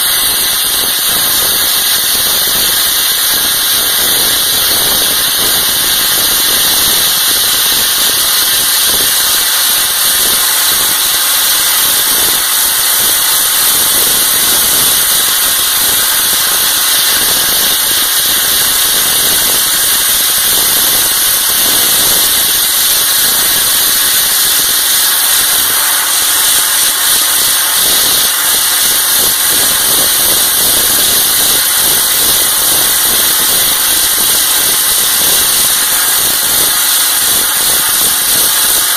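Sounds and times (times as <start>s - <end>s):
blast nozzle hissing: 0.0s - 38.9s.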